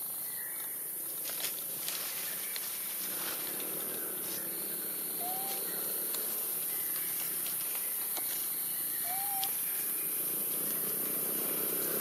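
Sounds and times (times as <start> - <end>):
insect chorus hissing: 0.0 - 12.0
clicks and rustles in leaves: 1.1 - 4.5, 5.4 - 12.0.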